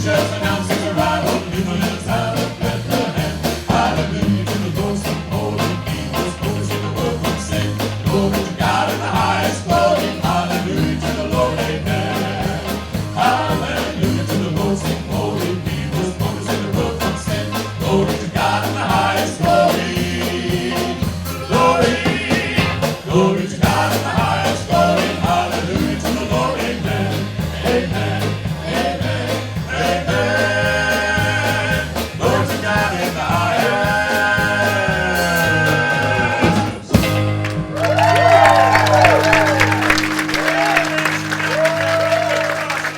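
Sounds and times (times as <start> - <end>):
rock gospel band music: 0.0 - 42.9.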